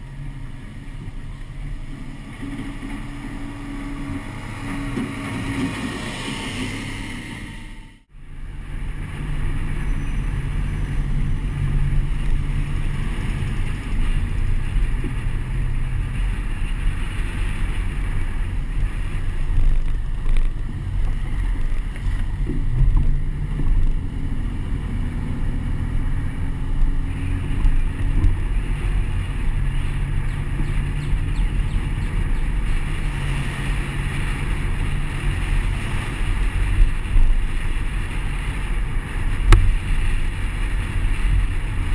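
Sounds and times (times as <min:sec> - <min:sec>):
car engine and tyres rumbling: 0:00.0 - 0:41.9
wind rushing over camera: 0:00.0 - 0:41.9.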